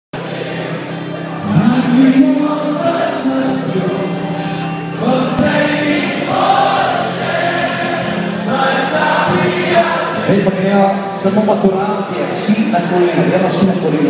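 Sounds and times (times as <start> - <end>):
crowd singing in unison: 0.2 - 14.0
live band music: 0.4 - 14.0.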